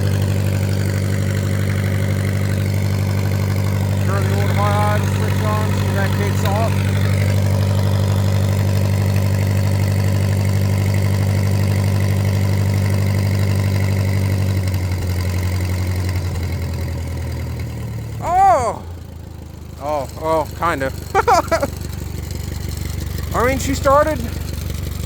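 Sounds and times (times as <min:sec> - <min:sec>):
welder engine running: 0:00.0 - 0:25.0.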